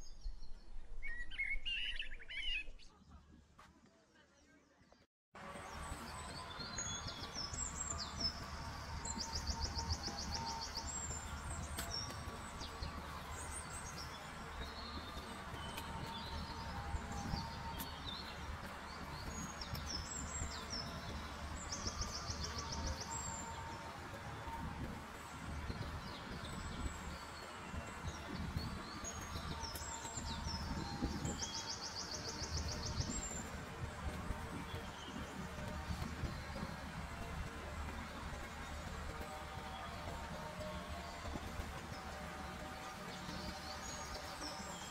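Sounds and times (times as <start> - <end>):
songbirds chirping and whistling: 0.0 - 3.2, 5.4 - 44.9.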